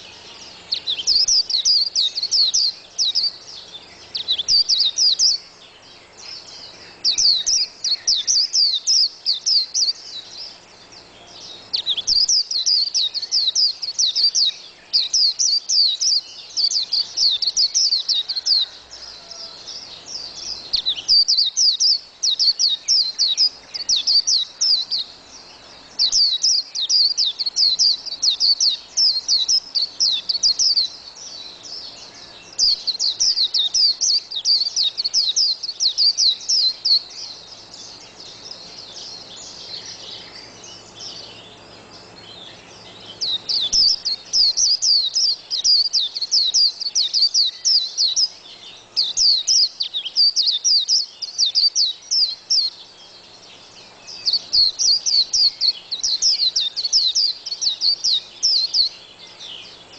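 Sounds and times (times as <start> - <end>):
soft bird twittering: 0.0 - 59.9.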